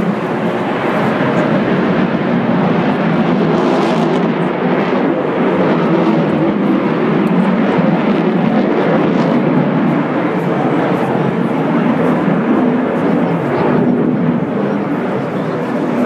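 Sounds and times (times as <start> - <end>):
fighter jet flying overhead: 0.0 - 16.0.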